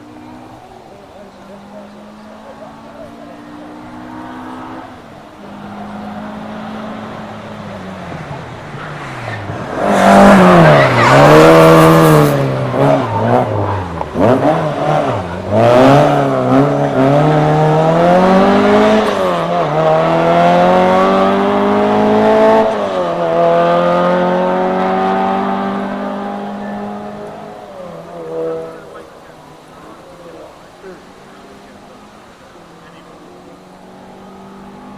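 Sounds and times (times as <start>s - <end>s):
rally car engine revving: 0.0s - 34.9s.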